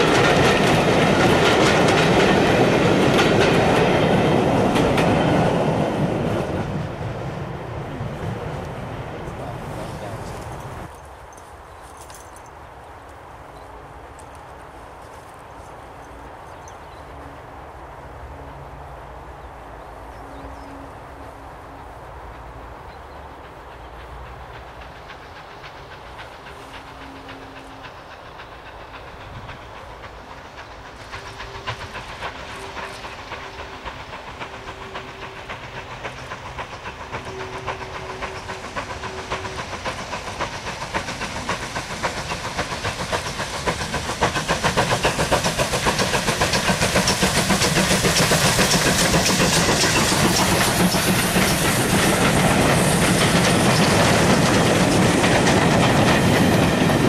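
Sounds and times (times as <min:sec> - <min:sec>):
train wheels clattering over rail joints: 0:00.0 - 0:12.6, 0:22.3 - 0:57.0
steam locomotive exhaust beats: 0:00.0 - 0:57.0.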